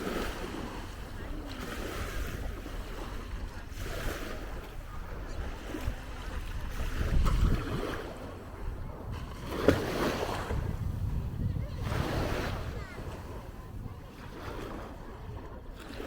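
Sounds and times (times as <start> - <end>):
small waves washing on shore: 0.0 - 16.0
wind on microphone: 0.0 - 16.0.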